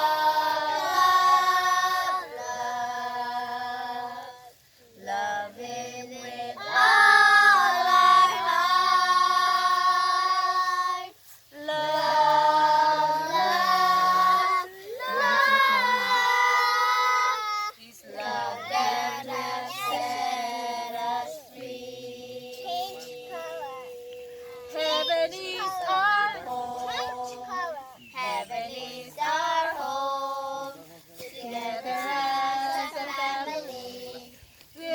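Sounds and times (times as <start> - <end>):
children singing: 0.0 - 34.9.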